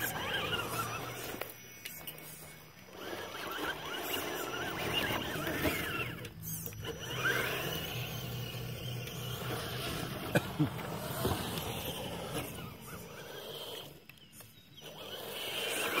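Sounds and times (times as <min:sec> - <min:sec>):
rc car motor whining: 0:00.0 - 0:16.0.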